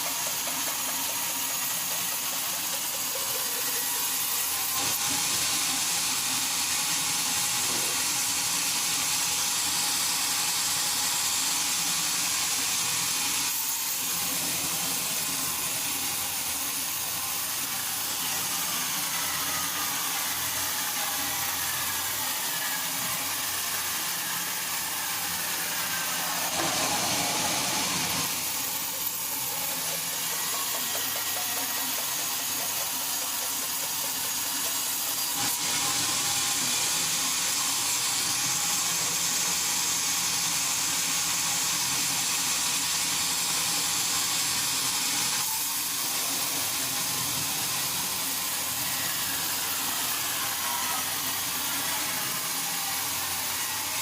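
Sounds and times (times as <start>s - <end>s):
sawmill machinery cutting wood: 0.0s - 54.0s.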